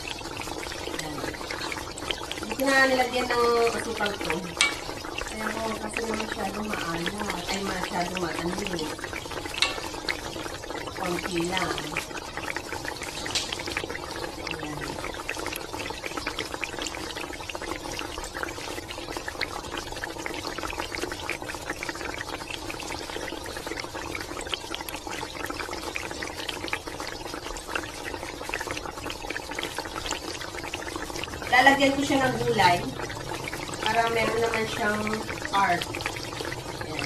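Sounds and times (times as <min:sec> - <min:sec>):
sauce bubbling and popping: 0:00.0 - 0:37.0
sauce splashing: 0:00.0 - 0:37.0.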